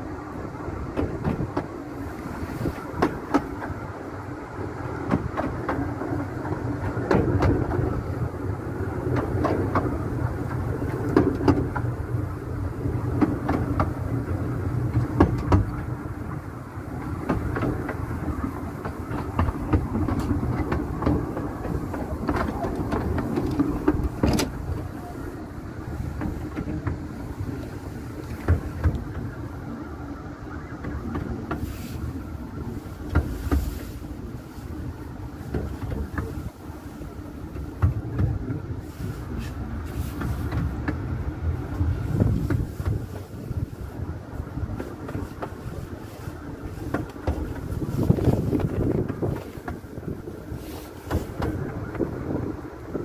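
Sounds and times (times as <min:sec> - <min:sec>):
train carriage rumble: 0:00.0 - 0:53.0
wheels clicking over track: 0:00.0 - 0:53.0.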